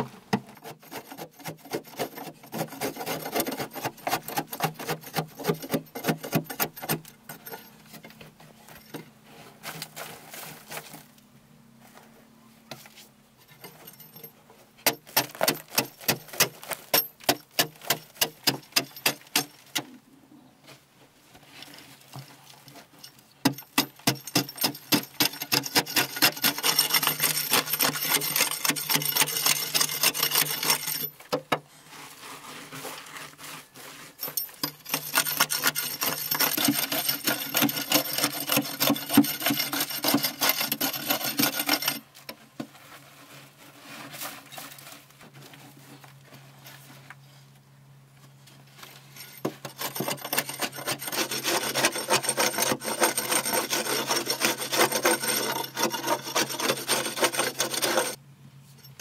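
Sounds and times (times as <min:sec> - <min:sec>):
digging tool scraping earth: 0:00.0 - 0:11.2, 0:14.8 - 0:20.0, 0:21.4 - 0:47.5, 0:48.6 - 0:58.2.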